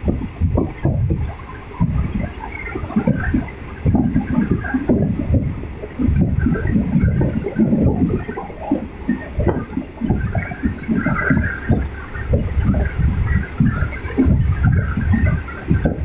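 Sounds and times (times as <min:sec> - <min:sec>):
train carriage running noise: 0:00.0 - 0:16.0
wind buffeting microphone: 0:00.0 - 0:16.0.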